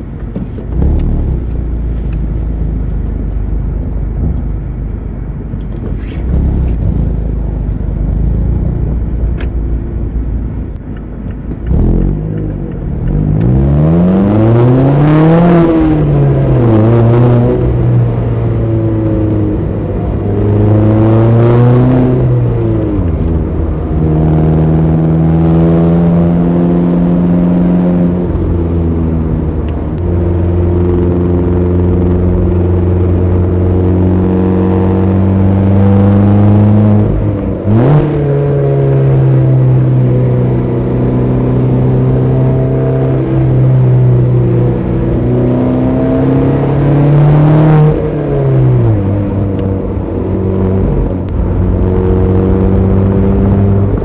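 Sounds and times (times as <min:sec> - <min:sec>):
car engine revving: 0:00.0 - 0:54.0
road noise: 0:00.0 - 0:54.0.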